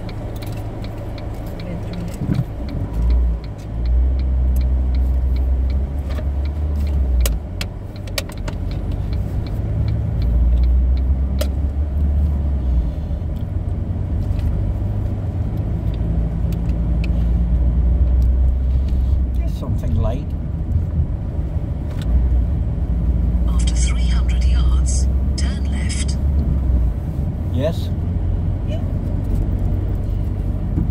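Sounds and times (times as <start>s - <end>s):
car engine and road noise: 0.0s - 30.9s.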